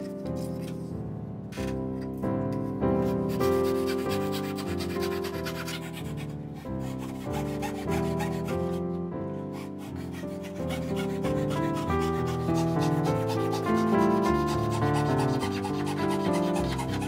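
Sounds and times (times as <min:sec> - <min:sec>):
instrumental music: 0:00.0 - 0:17.0
fret saw rasping through wood: 0:03.0 - 0:17.0.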